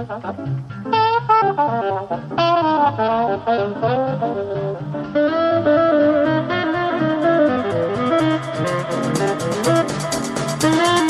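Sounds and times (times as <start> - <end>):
electro swing music: 0.0 - 11.0.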